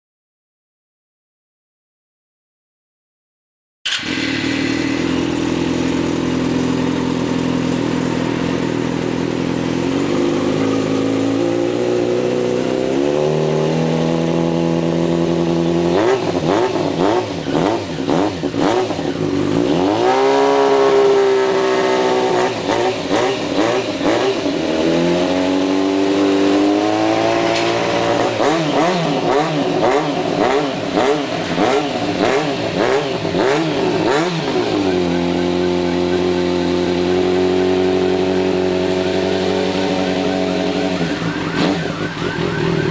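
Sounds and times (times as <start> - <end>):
motorcycle engine revving: 3.9 - 42.9.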